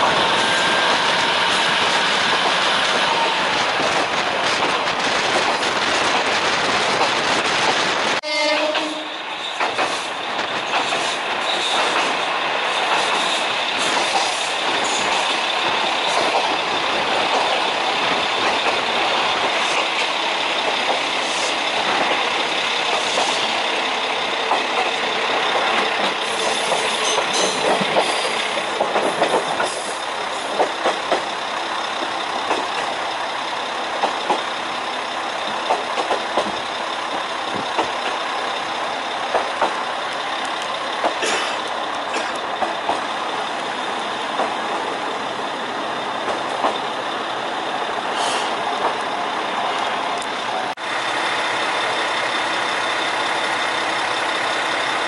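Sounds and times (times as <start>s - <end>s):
wheels running on rails: 0.0s - 8.2s, 8.8s - 55.0s
diesel railcar engine: 0.0s - 55.0s.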